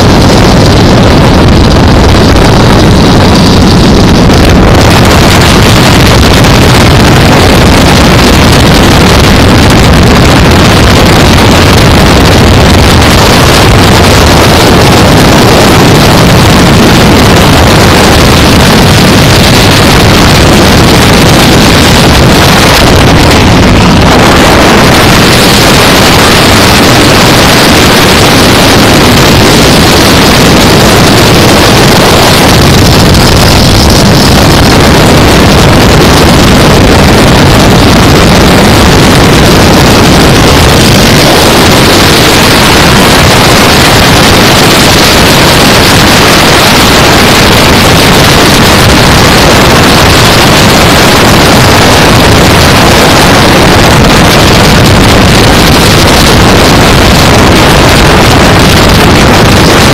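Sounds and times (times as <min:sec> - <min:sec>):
motorcycle engine running: 0:00.0 - 0:50.1
wind rushing on microphone: 0:00.0 - 0:59.9.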